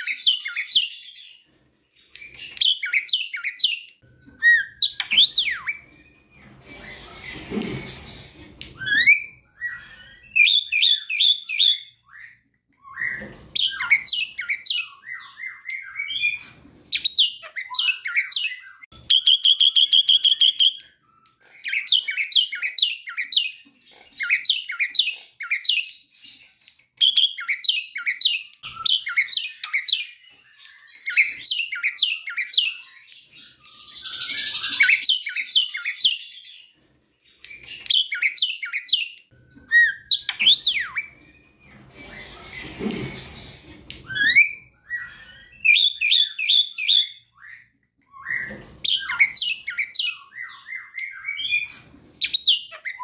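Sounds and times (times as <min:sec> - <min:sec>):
bird chirps and whistles: 0:02.2 - 0:07.5, 0:08.8 - 0:23.6, 0:27.0 - 0:36.6, 0:37.4 - 0:42.7, 0:44.0 - 0:53.0.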